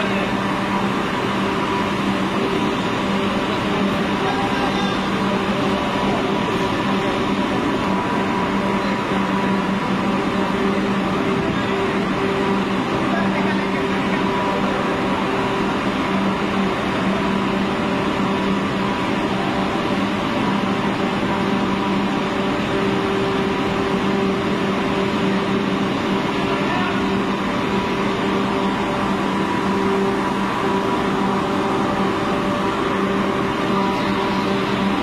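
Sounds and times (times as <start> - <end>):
mechanical drone in tunnel: 0.0 - 35.0.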